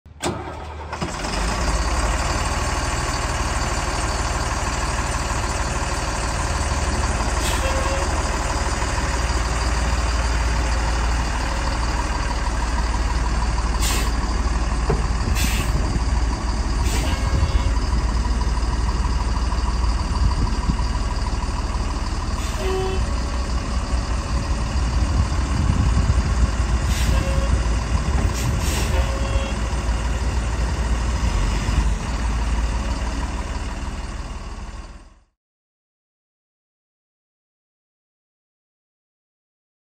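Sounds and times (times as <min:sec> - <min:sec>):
diesel engine idling: 0:00.1 - 0:35.3.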